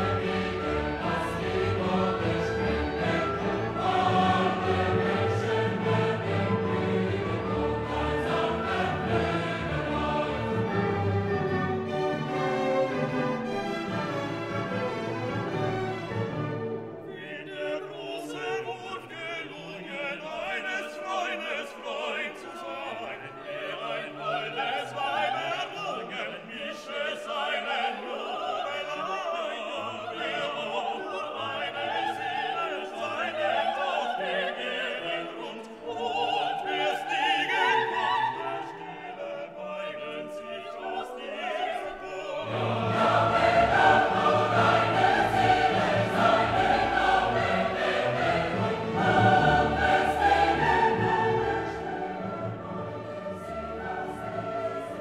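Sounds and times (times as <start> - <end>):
classical music with operatic singing: 0.0 - 55.0.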